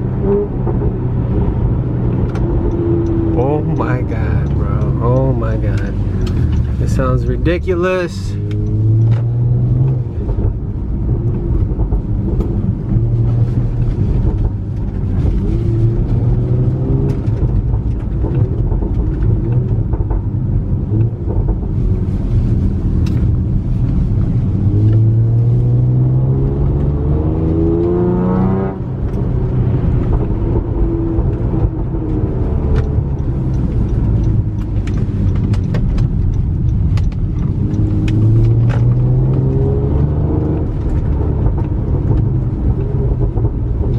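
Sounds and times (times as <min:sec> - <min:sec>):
car engine accelerating: 0:00.0 - 0:43.9
exhaust pops and crackles: 0:00.0 - 0:43.9.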